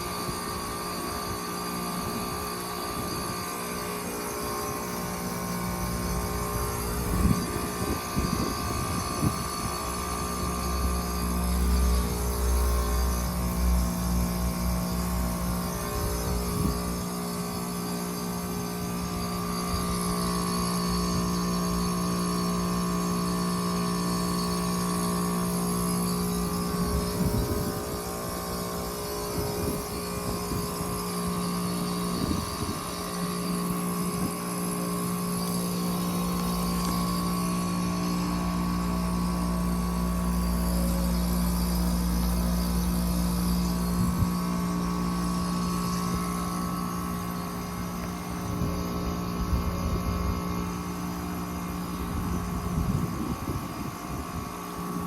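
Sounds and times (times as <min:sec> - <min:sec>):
heat pump mechanical hum: 0:00.0 - 0:55.0.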